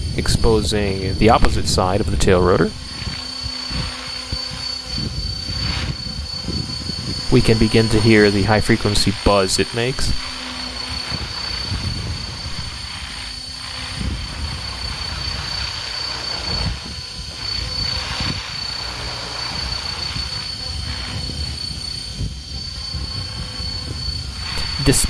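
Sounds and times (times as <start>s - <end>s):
helicopter rotor chopping: 0.0s - 25.0s
tail rotor buzz: 0.0s - 25.0s.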